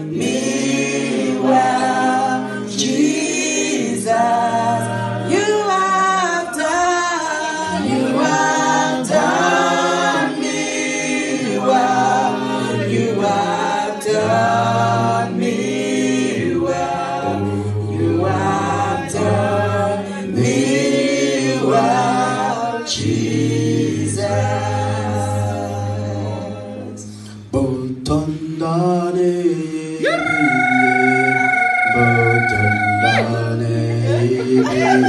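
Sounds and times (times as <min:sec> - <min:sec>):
gospel worship singing: 0:00.0 - 0:35.0.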